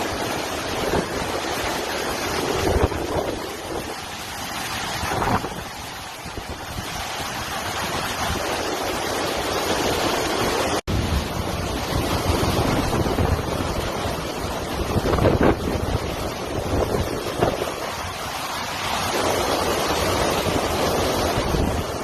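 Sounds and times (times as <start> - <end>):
strong wind rushing: 0.0 - 22.0
wind buffeting microphone: 0.0 - 22.0.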